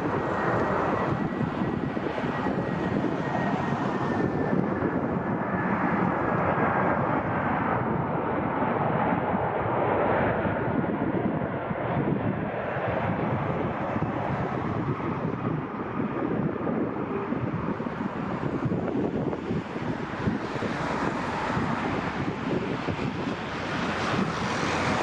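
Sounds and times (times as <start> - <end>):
jet engines rushing: 0.0 - 25.0
wind buffeting microphone: 0.0 - 25.0.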